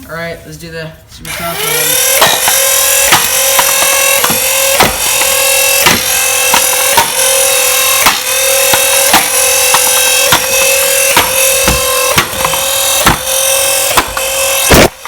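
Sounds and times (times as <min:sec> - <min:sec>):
blaster motor whine: 0:01.3 - 0:15.0.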